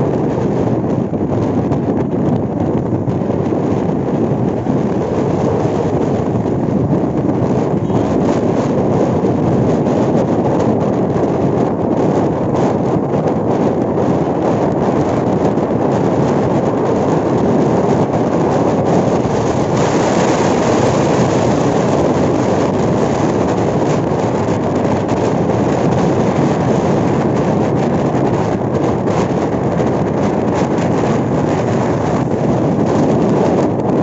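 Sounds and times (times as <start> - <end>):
motorcycle road and engine noise: 0.0 - 34.0
wind rushing over microphone: 0.0 - 34.0.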